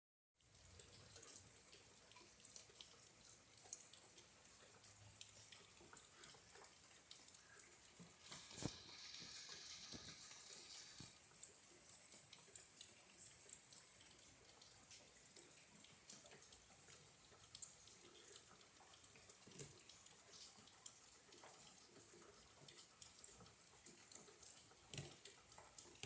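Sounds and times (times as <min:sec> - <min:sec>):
rain patter and dripping: 0:00.4 - 0:26.0.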